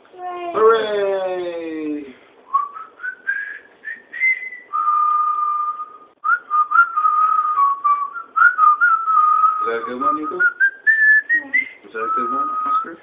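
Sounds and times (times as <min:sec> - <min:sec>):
person whistling a tune: 0:02.5 - 0:13.0.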